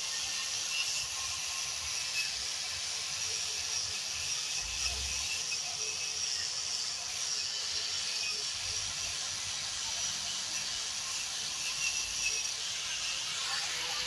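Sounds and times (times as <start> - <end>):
wire brush grinder on wood: 0.0 - 14.0.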